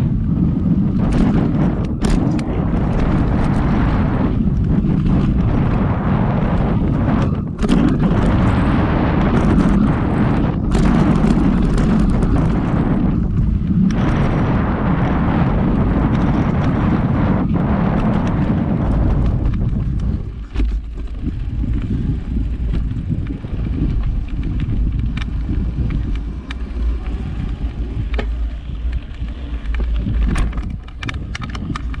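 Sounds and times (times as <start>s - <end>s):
bike knocking and rattling: 0.0s - 32.0s
bike tyres rumbling on dirt: 0.0s - 32.0s
wind rushing over camera: 0.0s - 32.0s.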